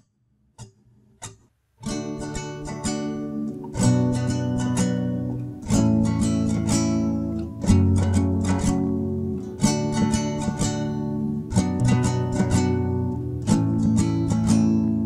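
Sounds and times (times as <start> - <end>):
acoustic guitar strumming chords: 0.6 - 15.0.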